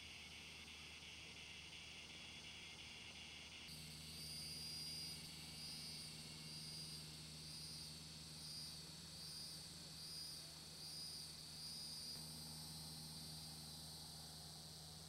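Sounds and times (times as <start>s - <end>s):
crickets trilling: 0.1s - 15.0s.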